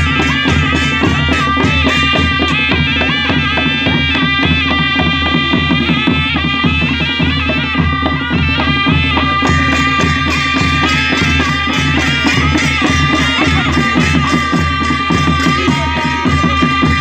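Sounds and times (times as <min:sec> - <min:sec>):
fast drum beat: 0:00.0 - 0:17.0
wind instrument wavering melody: 0:00.0 - 0:17.0.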